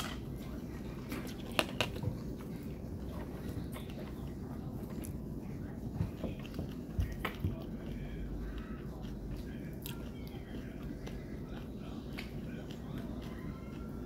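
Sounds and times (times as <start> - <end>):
chewing and eating noises: 0.0 - 14.0.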